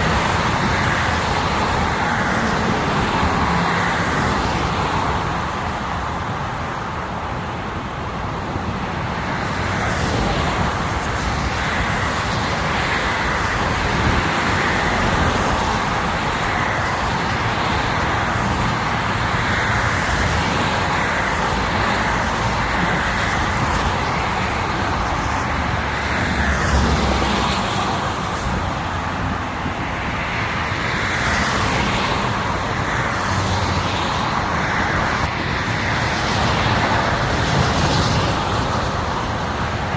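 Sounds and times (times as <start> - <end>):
vehicle driving on highway: 0.0 - 39.9.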